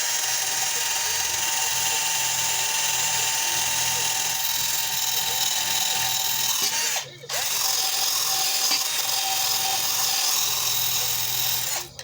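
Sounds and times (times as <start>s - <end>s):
electric drill motor whine: 0.0s - 12.0s.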